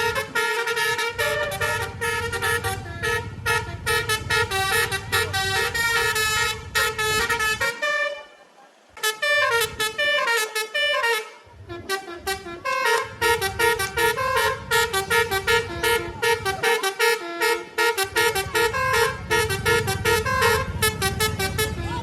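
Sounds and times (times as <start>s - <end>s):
bus engine rumble: 0.0s - 22.0s
musical bus horn toots: 0.0s - 22.0s.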